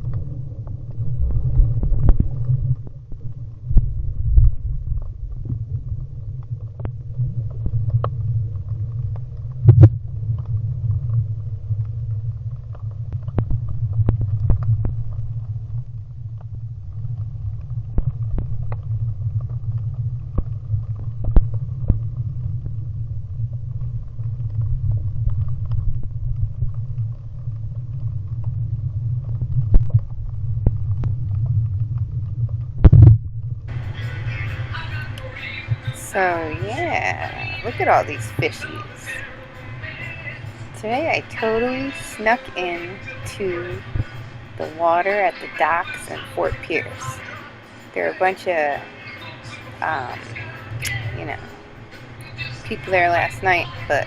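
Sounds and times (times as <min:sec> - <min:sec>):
low underwater rumble: 0:00.0 - 0:54.0.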